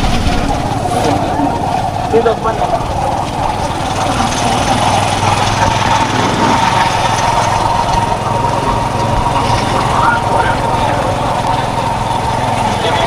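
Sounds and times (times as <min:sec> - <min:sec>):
wind noise: 0:00.0 - 0:02.1, 0:02.7 - 0:11.5
road noise: 0:00.0 - 0:13.0
small vehicle engine running: 0:00.0 - 0:13.0.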